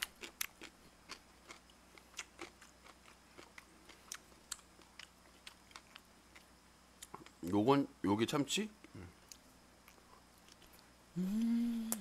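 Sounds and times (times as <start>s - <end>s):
person chewing food: 0.0s - 7.5s, 8.8s - 12.0s.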